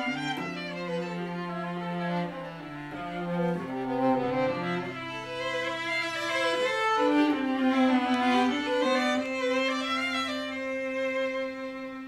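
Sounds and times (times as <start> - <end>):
cello holding low notes: 0.0 - 12.0
violin melody: 0.0 - 12.0.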